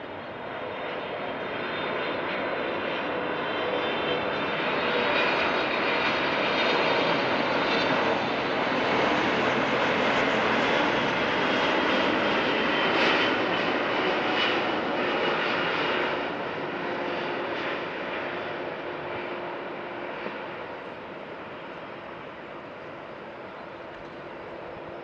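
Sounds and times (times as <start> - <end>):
jet engine rush and whine: 0.0 - 25.0.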